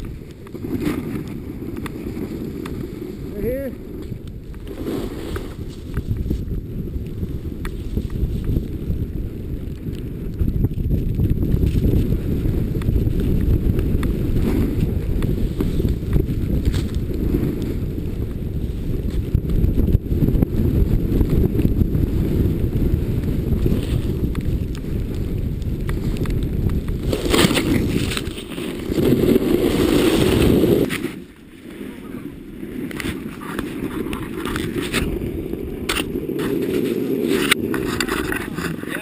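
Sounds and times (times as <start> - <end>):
snowboard sliding through powder: 0.0 - 39.0
wind rushing over microphone: 0.0 - 39.0.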